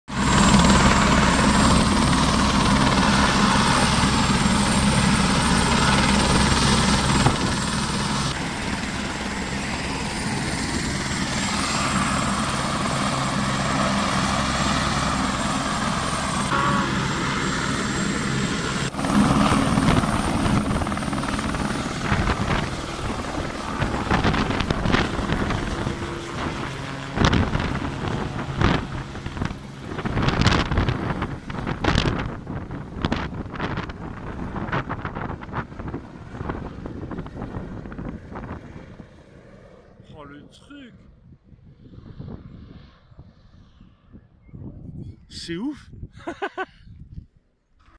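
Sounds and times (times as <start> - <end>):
helicopter engine whine and rotor: 0.1 - 43.4.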